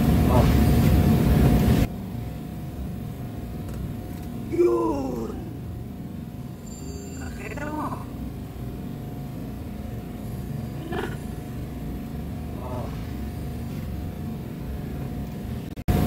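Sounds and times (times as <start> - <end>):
low mechanical hum: 0.0 - 16.0
thin whine: 0.0 - 16.0.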